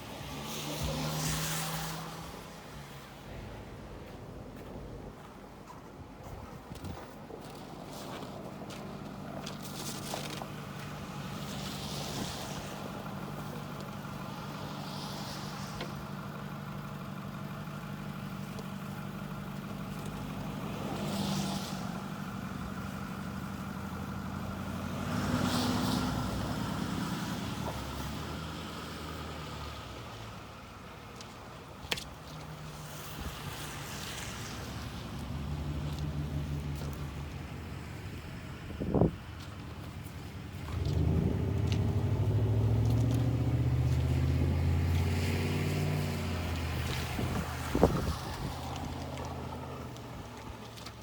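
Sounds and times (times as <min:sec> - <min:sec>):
traffic engine hum: 0:00.0 - 0:51.0
vehicles passing: 0:00.0 - 0:51.0.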